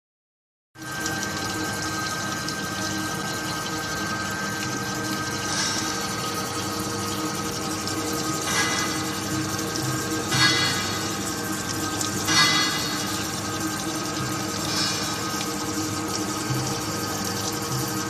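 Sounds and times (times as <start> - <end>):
welding machine humming: 0.8 - 18.0.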